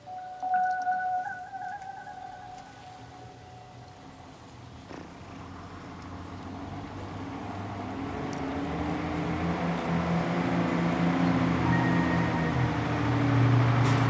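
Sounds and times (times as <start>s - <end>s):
bus engine approaching: 0.0s - 14.0s.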